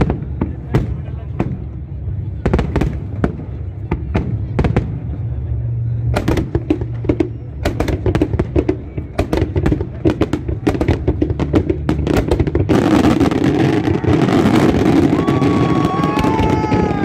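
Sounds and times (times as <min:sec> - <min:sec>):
dense steady noise: 0:00.0 - 0:17.0
fireworks bangs: 0:00.0 - 0:17.0.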